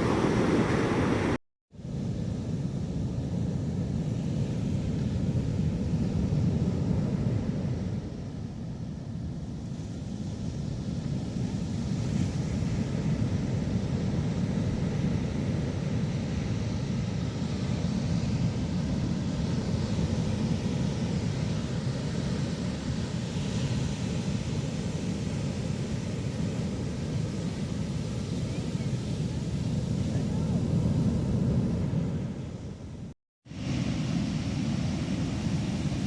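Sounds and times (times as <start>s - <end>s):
ocean surf on beach: 0.0s - 36.0s.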